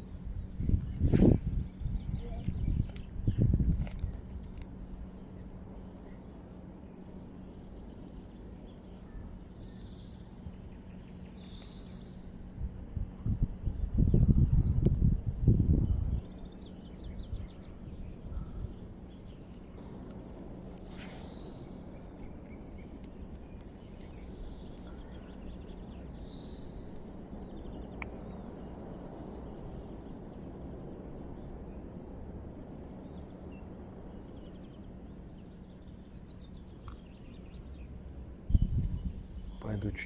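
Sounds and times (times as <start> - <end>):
wind: 0.0 - 40.0
small birds chirping: 0.3 - 40.0.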